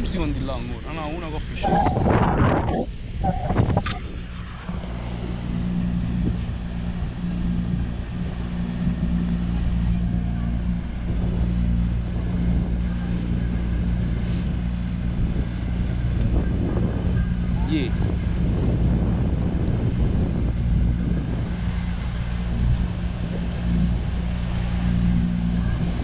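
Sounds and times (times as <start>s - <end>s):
motorboat engine humming: 0.0s - 26.0s
wind noise: 1.0s - 26.0s.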